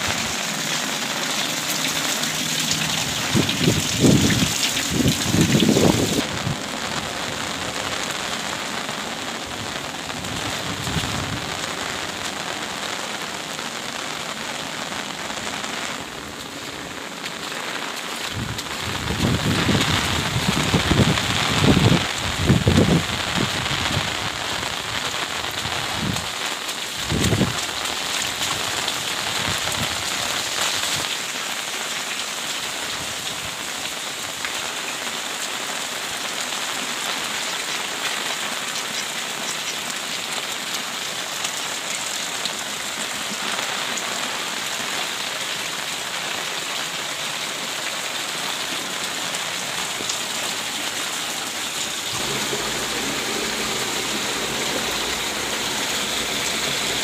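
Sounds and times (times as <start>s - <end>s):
heavy rain on wet ground: 0.0s - 57.0s.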